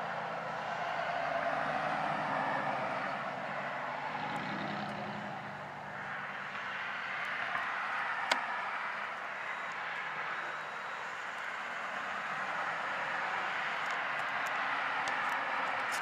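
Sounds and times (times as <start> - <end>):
passing traffic rushing: 0.0 - 16.0.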